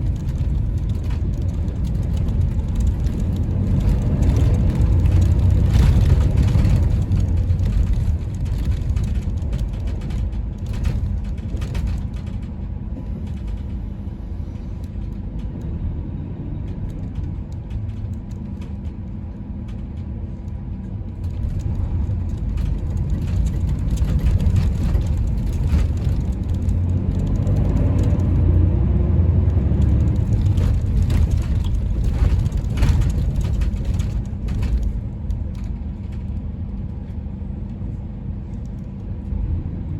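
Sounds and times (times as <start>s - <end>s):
bus body rattling and knocking: 0.0s - 39.6s
bus engine rumbling: 0.0s - 39.9s.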